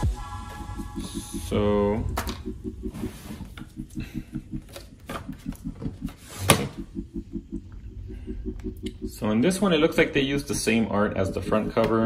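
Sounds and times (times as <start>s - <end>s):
faint low pulsing: 0.0s - 12.0s.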